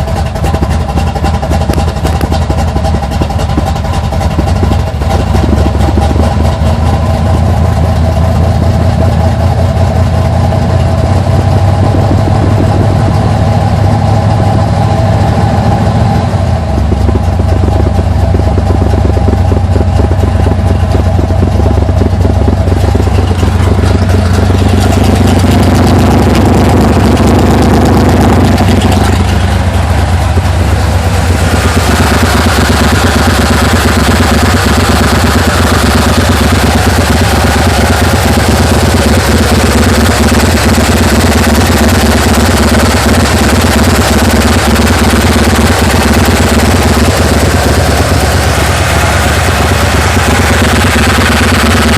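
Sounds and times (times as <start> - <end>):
engine rough idle: 0.0 - 51.9.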